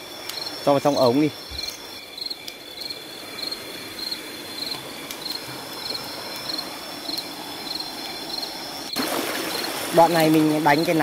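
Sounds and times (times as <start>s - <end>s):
insect trilled chirps: 0.0s - 9.0s
stream flowing softly: 0.0s - 11.0s.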